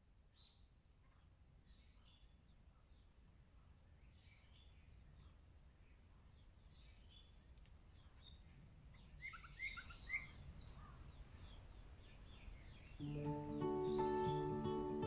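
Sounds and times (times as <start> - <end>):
faint birdsong chirps: 0.0 - 15.0.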